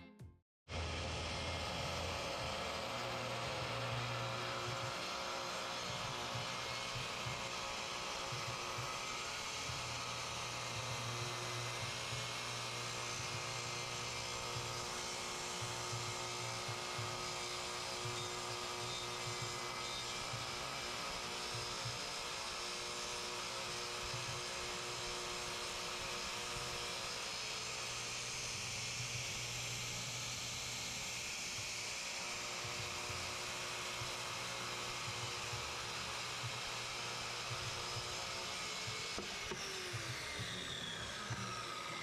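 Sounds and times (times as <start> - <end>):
power tool motor whining: 0.7 - 42.0.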